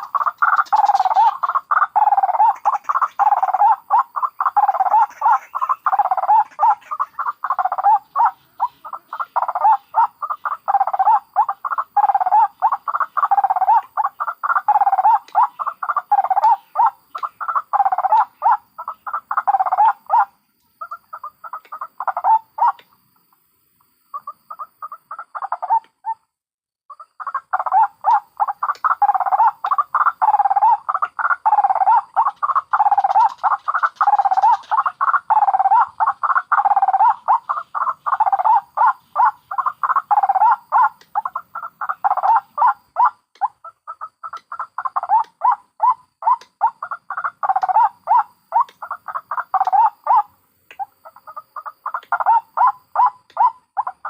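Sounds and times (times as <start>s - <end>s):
waterhens calling: 0.0s - 23.0s, 26.9s - 54.0s.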